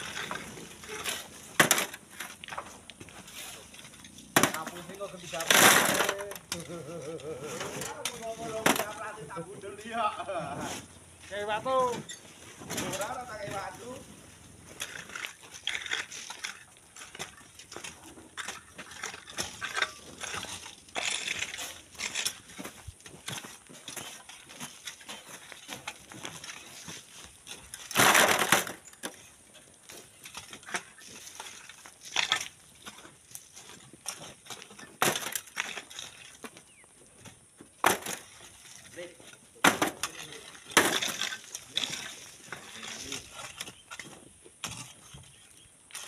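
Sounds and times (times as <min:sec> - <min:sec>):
sand and stone crunching and scraping: 0:00.0 - 0:46.0.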